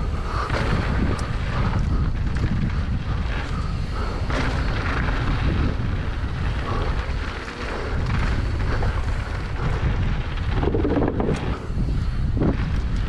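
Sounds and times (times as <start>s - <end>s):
tyres on dirt: 0.0s - 11.7s
bike rattling: 0.0s - 13.0s
wind buffeting microphone: 0.0s - 13.0s.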